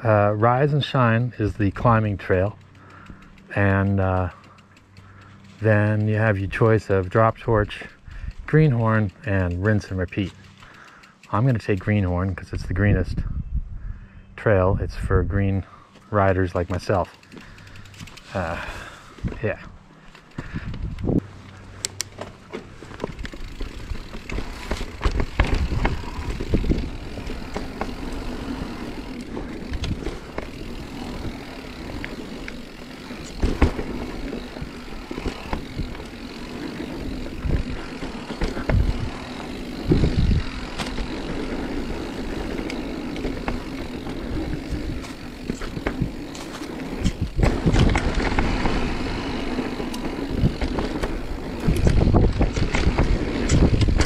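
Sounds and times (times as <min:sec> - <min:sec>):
bike rattling over bumps: 0:00.0 - 0:13.1, 0:15.8 - 0:54.0
bike tyres rolling on dirt: 0:00.0 - 0:13.3, 0:14.5 - 0:54.0.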